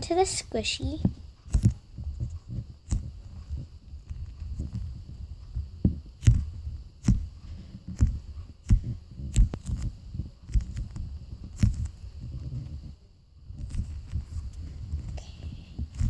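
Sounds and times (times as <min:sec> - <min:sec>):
rubbing and handling noise: 0:00.0 - 0:16.0.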